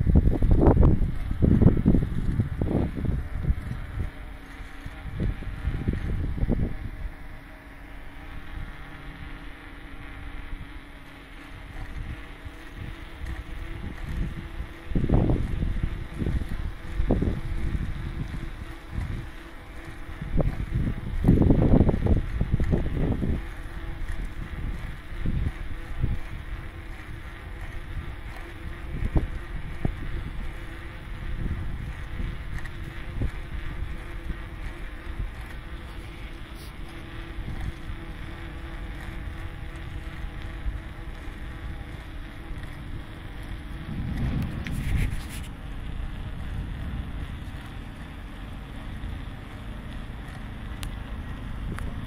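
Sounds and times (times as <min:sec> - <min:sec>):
low steady hum: 0:00.0 - 0:52.0
wind rumbling on microphone: 0:00.0 - 0:52.0.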